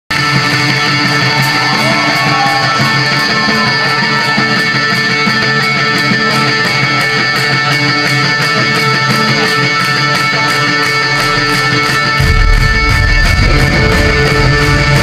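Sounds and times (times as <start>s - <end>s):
distorted electric guitars: 0.1s - 15.0s.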